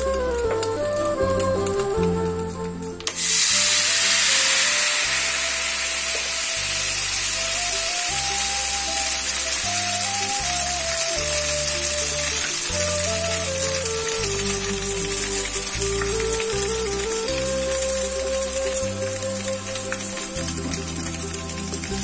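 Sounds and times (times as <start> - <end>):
batter sizzling in hot oil: 3.1 - 22.0.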